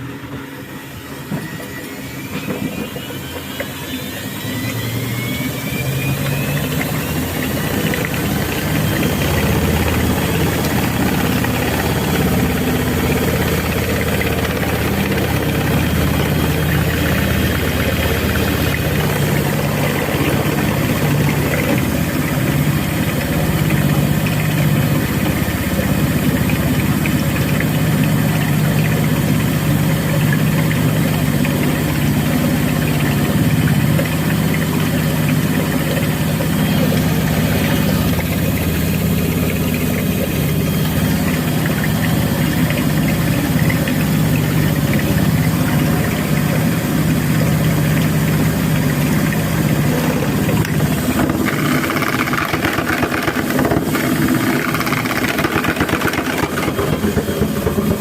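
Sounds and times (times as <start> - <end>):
washing machine spinning: 0.0 - 58.0.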